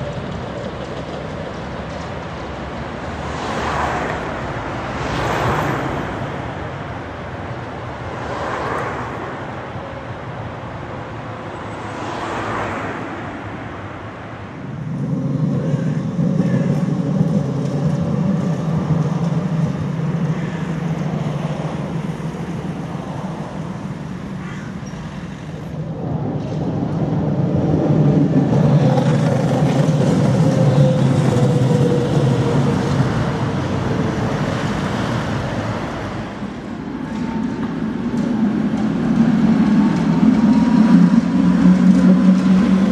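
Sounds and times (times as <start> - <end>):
cars driving past: 0.0 - 42.9
low traffic rumble: 0.0 - 42.9.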